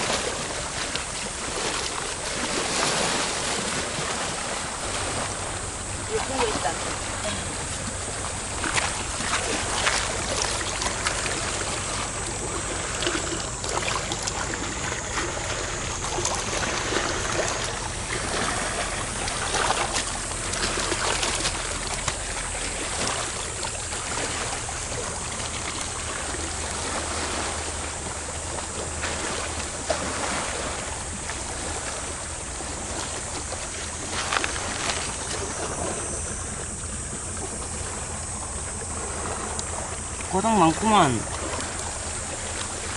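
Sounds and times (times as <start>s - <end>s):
seawater lapping among rocks: 0.0s - 42.9s
splashes of wading: 0.0s - 42.9s.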